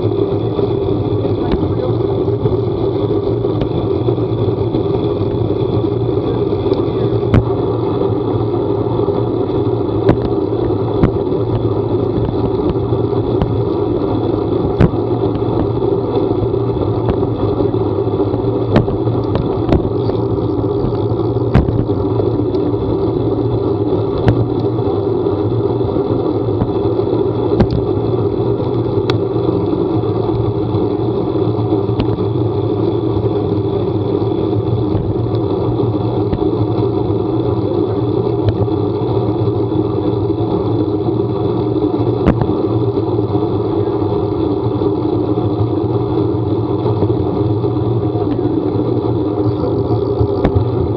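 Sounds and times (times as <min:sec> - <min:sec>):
engine and road rumble: 0:00.0 - 0:50.9.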